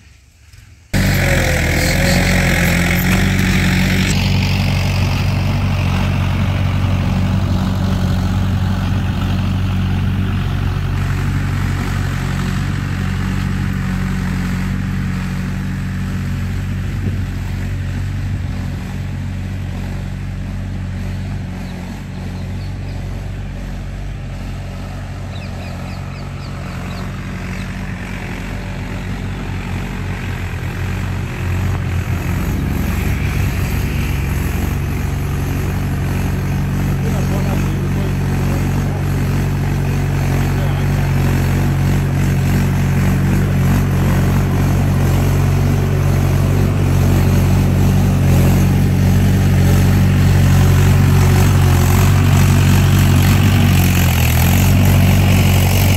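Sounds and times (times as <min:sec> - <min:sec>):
low engine hum: 0:00.4 - 0:55.9.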